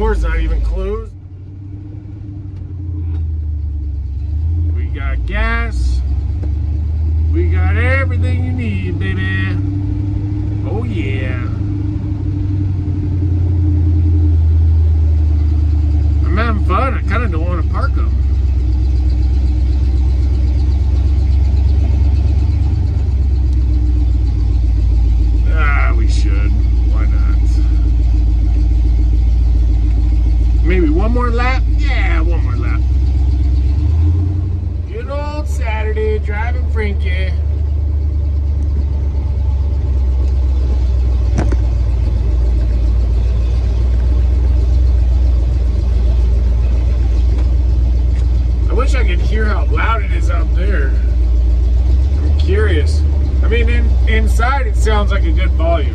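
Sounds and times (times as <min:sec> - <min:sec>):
truck engine rumbling: 0:00.0 - 0:55.9.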